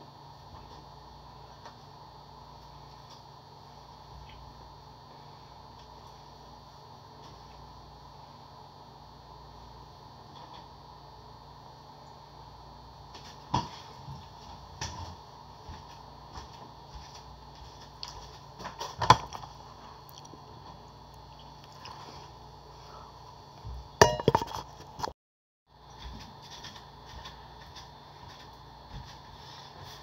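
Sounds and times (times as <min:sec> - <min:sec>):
room hum: 0:00.0 - 0:25.1, 0:25.7 - 0:30.0.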